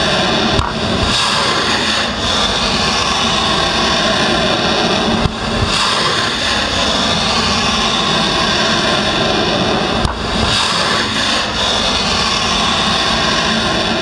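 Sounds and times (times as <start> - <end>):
rocket motor exhaust rushing: 0.0 - 14.0.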